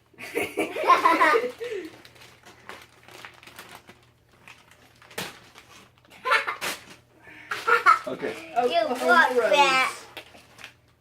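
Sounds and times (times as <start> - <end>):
package rustling: 1.0 - 11.0.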